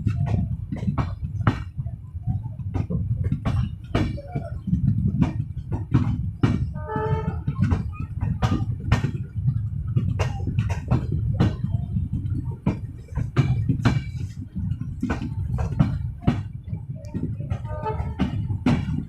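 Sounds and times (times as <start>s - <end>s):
train running gear rumbling: 0.0s - 19.0s
wheels clicking and knocking: 0.0s - 19.0s.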